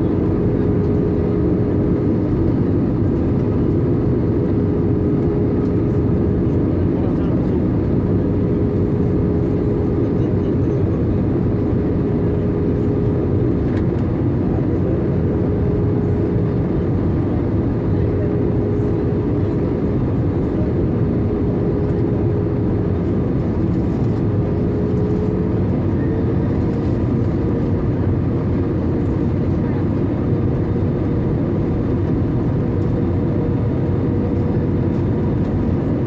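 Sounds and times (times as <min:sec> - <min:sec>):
airplane cabin engine rush: 0:00.0 - 0:36.0.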